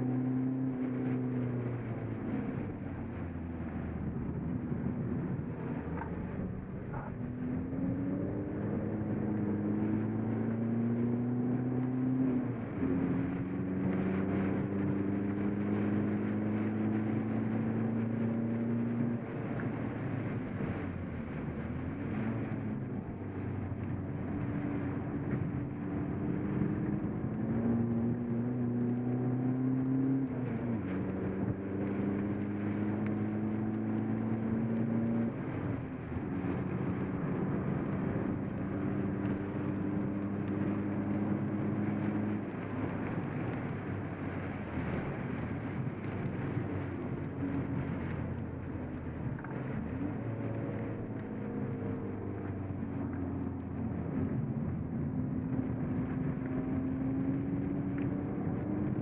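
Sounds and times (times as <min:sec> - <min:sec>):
car engine accelerating: 0:00.0 - 0:59.0
road noise: 0:00.0 - 0:59.0.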